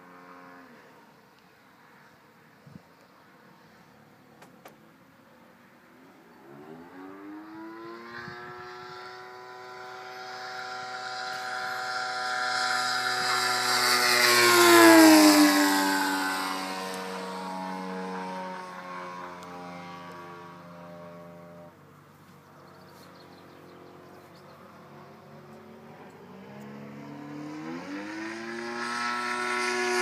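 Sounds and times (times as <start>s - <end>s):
propeller plane flying past: 0.0s - 30.0s.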